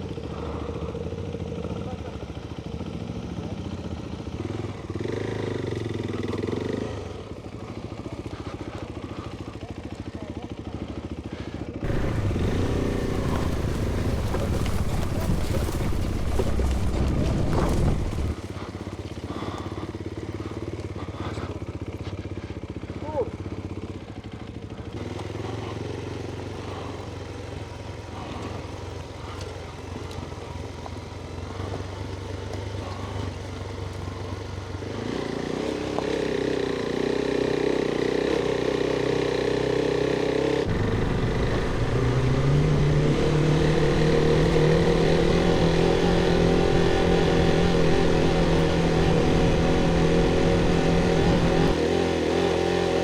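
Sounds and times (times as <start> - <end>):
motorcycle engine revving: 0.1 - 53.0.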